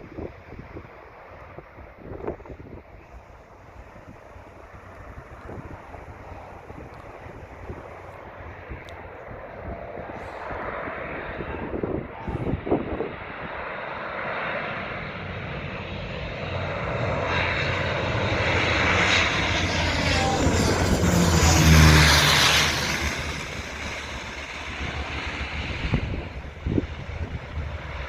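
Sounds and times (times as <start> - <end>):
propeller airliner passing: 0.0 - 28.0.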